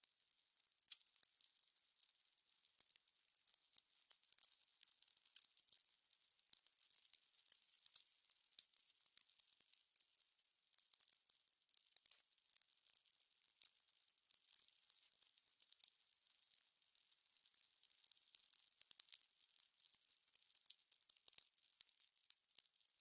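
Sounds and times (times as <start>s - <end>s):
fire crackling and popping: 0.1s - 23.0s.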